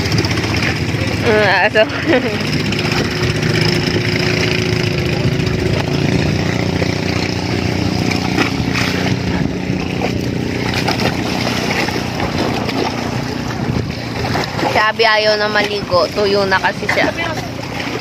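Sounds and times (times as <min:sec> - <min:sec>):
small boat engine droning: 0:00.0 - 0:18.0.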